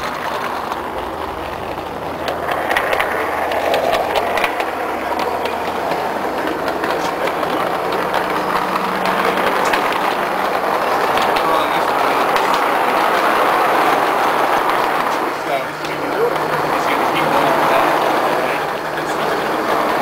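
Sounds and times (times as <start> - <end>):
model train wheels rumbling: 0.0 - 20.0
sharp wheel clicks on track: 0.0 - 20.0.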